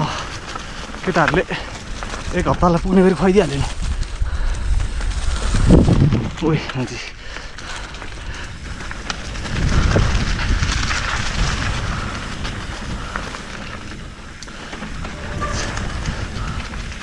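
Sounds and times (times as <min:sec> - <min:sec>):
bike rattles: 0:00.0 - 0:17.0
bike tyres crunching on dirt: 0:00.0 - 0:17.0
wind on microphone: 0:00.0 - 0:17.0.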